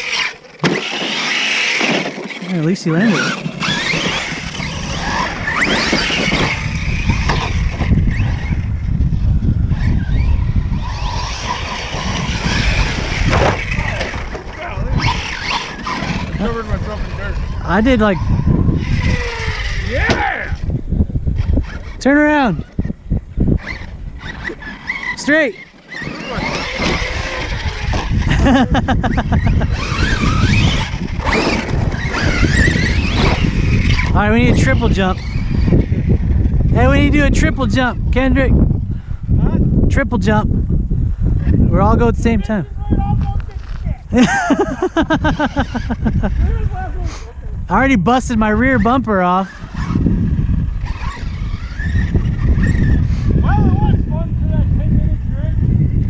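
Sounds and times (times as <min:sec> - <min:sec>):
electric motors whining: 0:00.0 - 0:39.3, 0:43.1 - 0:47.0, 0:47.8 - 0:56.0.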